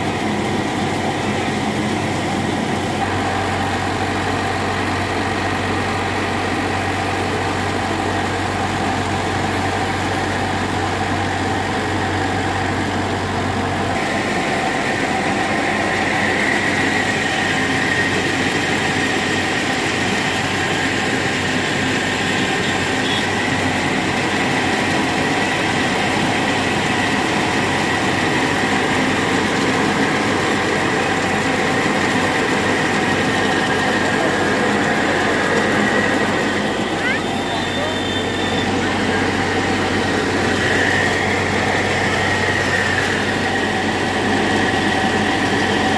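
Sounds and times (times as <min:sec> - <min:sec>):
rice mill high whine: 0:00.0 - 0:45.9
tractor engine droning: 0:00.0 - 0:45.9.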